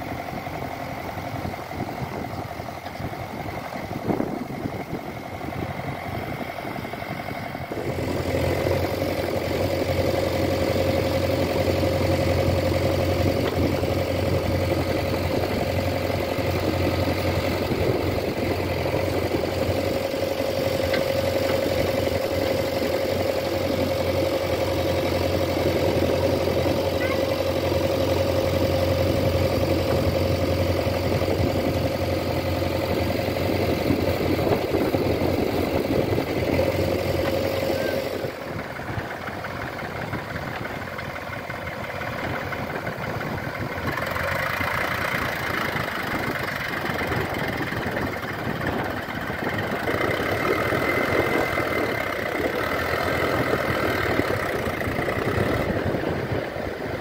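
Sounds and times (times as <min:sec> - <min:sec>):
diesel engines idling: 0:00.0 - 0:57.0
distant engine: 0:00.0 - 0:57.0.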